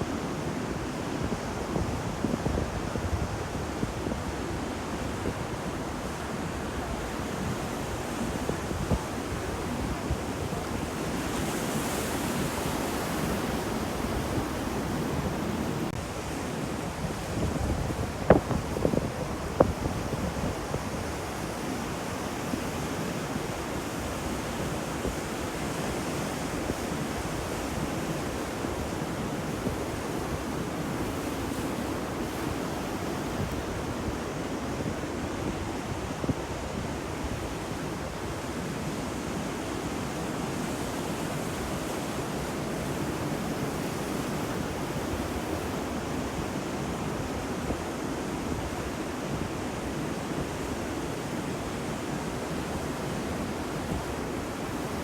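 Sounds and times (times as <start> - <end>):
sea waves washing on shore: 0.0 - 55.0.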